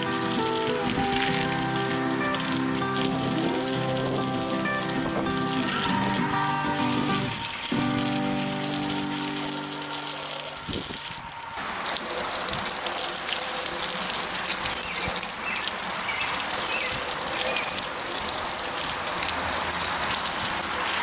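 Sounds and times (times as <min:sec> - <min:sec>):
hose water spraying on metal: 0:00.0 - 0:21.0.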